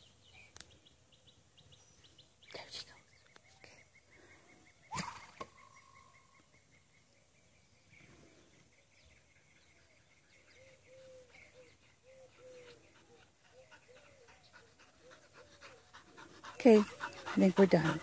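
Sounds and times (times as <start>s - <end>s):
birds chirping: 0.0s - 18.0s
faint outdoor ambience: 0.0s - 18.0s.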